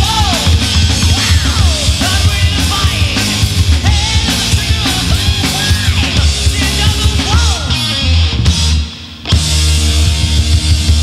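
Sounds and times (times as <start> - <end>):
hard rock band playing: 0.0 - 11.0.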